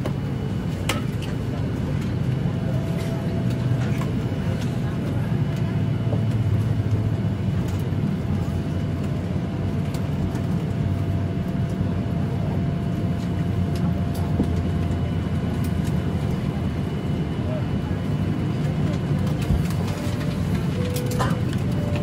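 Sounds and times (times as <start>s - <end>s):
aircraft cabin hum: 0.0s - 22.0s.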